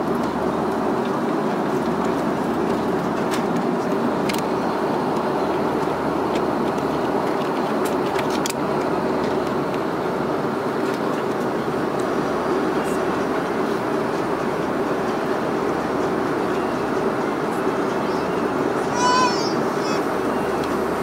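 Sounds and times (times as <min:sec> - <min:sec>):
airliner cabin engine drone: 0:00.0 - 0:21.0.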